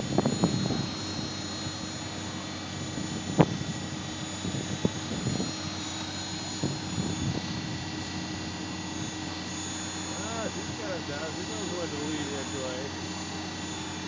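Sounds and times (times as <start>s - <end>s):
mechanical bull machine drone: 0.0s - 14.0s.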